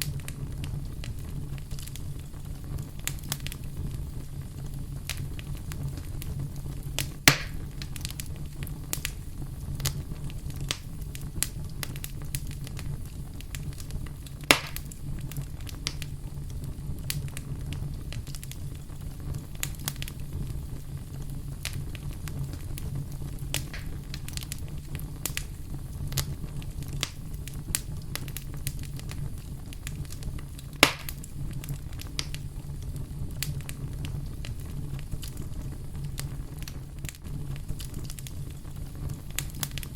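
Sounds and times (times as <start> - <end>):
campfire crackling: 0.0 - 39.9
loud fire pops: 0.0 - 39.9
steady low rumble: 0.0 - 39.9.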